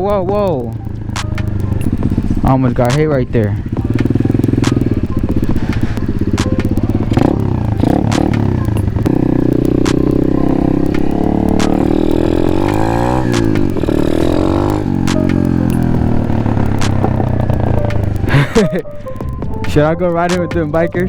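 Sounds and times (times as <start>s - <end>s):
motorbike engine revving: 0.0s - 19.4s.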